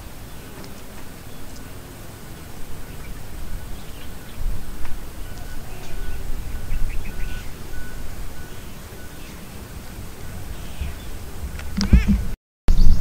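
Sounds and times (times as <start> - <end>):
wind rumble on microphone: 0.0 - 13.0
bird chirps: 0.1 - 12.1, 12.7 - 13.0.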